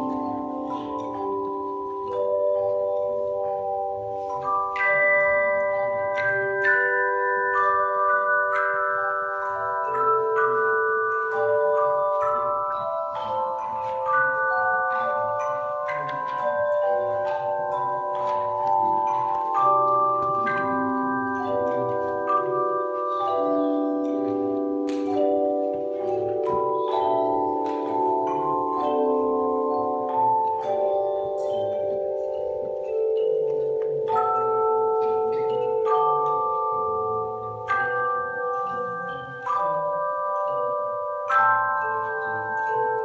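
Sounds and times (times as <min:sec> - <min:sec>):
handbell choir playing chords: 0:00.0 - 0:43.0.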